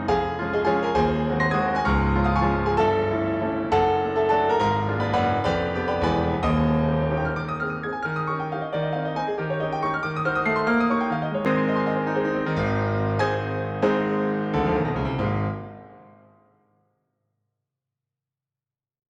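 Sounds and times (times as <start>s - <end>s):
piano background music: 0.0s - 16.5s.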